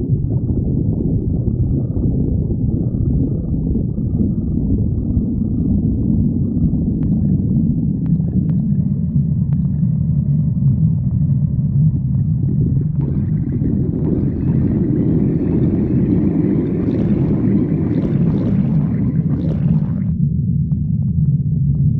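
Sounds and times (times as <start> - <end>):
stomach growling: 0.0 - 20.2.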